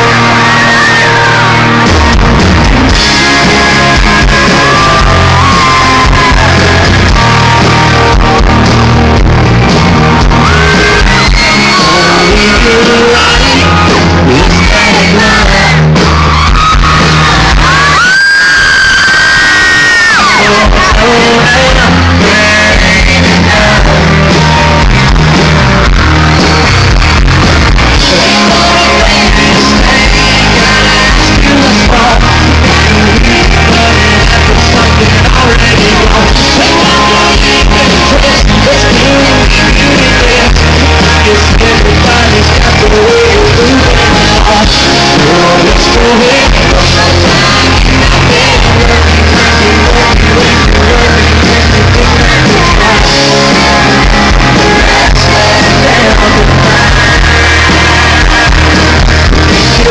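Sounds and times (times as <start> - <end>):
man singing: 0.0 - 8.6, 10.2 - 25.9, 27.8 - 59.9
live country band: 0.0 - 59.9.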